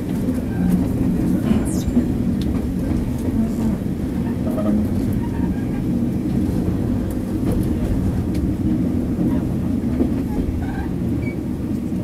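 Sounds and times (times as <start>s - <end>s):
railcar engine and wheels rumbling: 0.0s - 12.0s.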